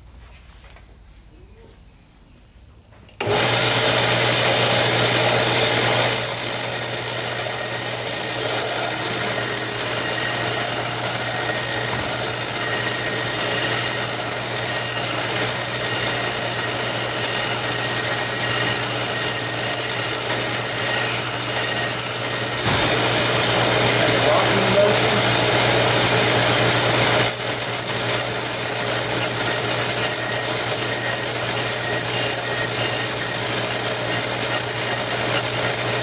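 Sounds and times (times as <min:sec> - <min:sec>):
belt sander motor hum: 0:03.2 - 0:36.0
wood sanding: 0:03.2 - 0:36.0.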